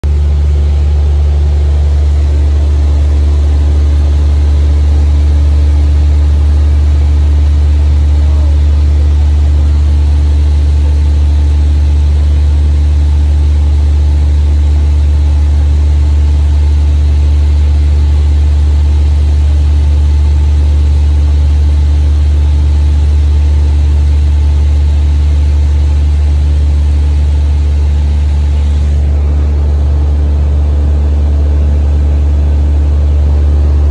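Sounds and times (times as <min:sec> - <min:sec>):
airplane engine and propeller drone: 0:00.0 - 0:33.9.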